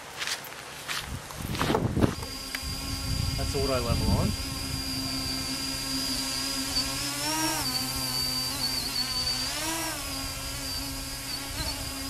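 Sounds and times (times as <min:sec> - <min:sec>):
drone propellers buzzing: 0:01.2 - 0:12.0.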